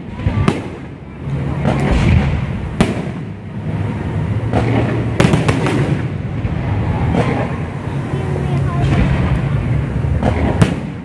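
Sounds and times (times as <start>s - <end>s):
low rumble from fireworks: 0.0s - 11.0s
firework shells bursting: 0.2s - 11.0s.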